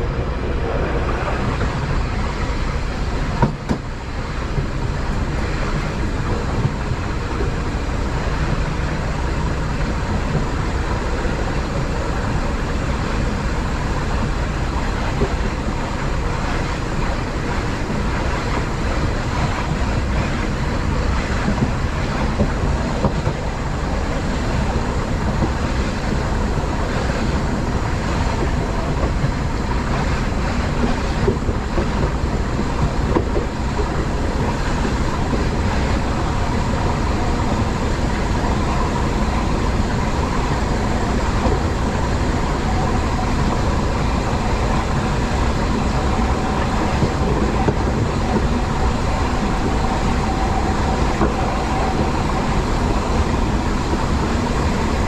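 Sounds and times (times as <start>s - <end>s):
train rumbling and rolling: 0.0s - 55.0s.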